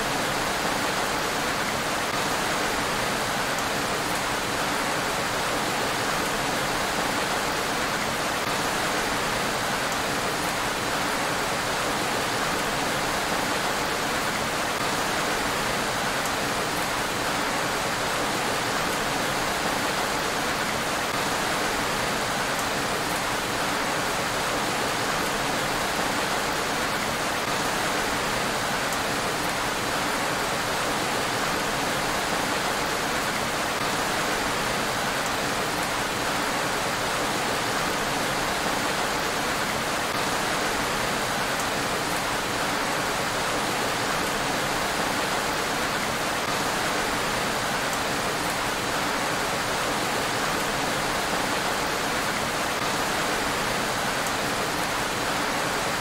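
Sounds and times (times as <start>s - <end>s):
rain on a road: 0.0s - 56.0s.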